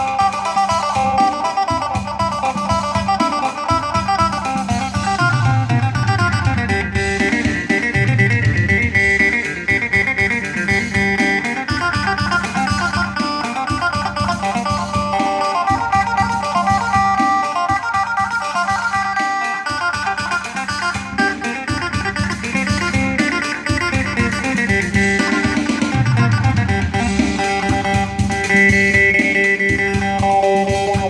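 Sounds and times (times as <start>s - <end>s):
electric plucked lute melody: 0.0s - 31.0s.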